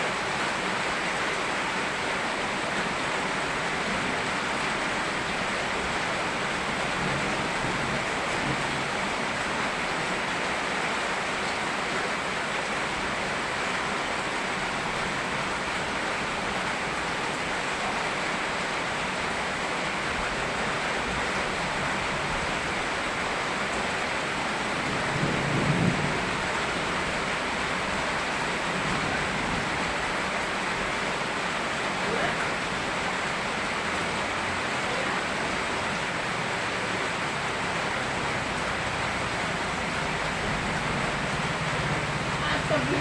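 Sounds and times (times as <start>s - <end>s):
river water flowing: 0.0s - 43.0s
steady rain: 0.0s - 43.0s.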